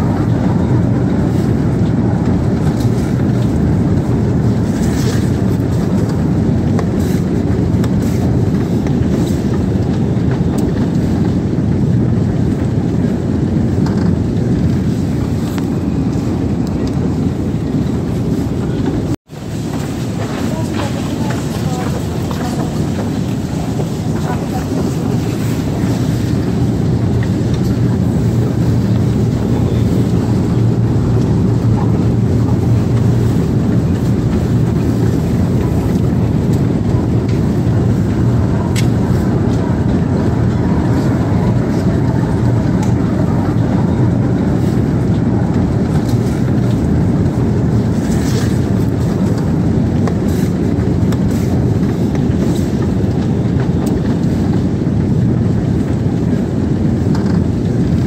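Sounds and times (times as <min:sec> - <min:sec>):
escalator humming and rumbling: 0:00.0 - 0:58.0.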